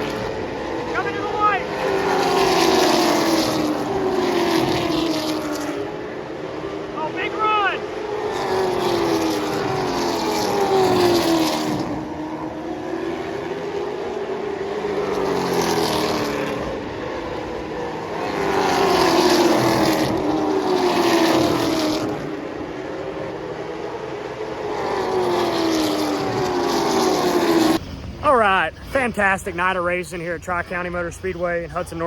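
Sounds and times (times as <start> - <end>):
race car engines passing: 0.0 - 32.0.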